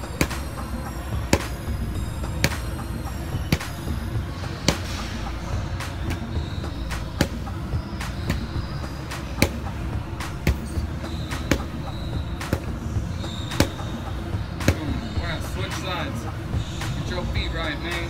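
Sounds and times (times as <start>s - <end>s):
gloves punching focus mitts: 0.0s - 5.2s, 5.8s - 16.1s.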